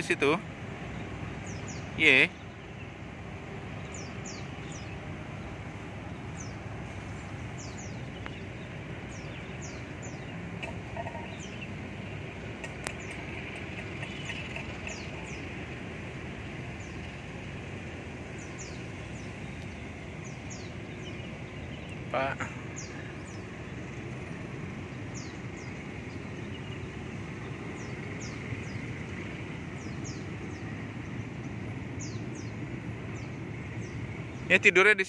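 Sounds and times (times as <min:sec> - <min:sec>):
distant road traffic hum: 0:00.0 - 0:35.0
bird chirping: 0:00.9 - 0:03.0, 0:03.8 - 0:17.2, 0:18.3 - 0:24.0, 0:24.9 - 0:34.7.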